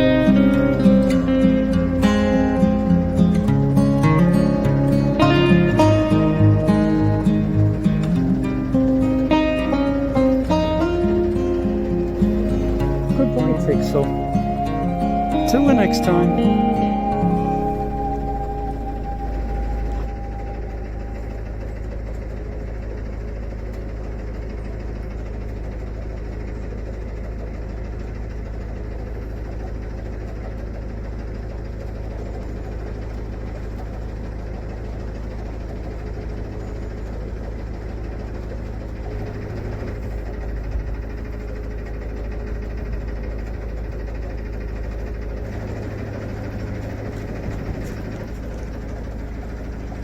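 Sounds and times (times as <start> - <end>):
boat diesel engine running: 0.0 - 50.0.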